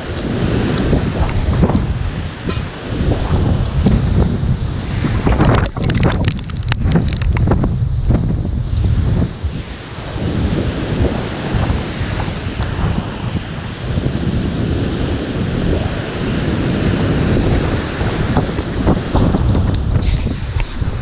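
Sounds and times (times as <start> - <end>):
wind gusts buffeting microphone: 0.0 - 21.0.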